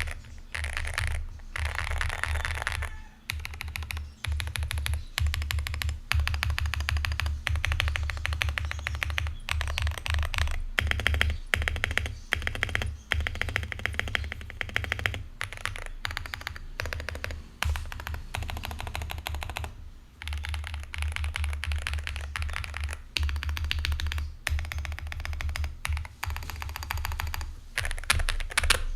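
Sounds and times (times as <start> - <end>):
mechanical keyboard typing: 0.0 - 28.9.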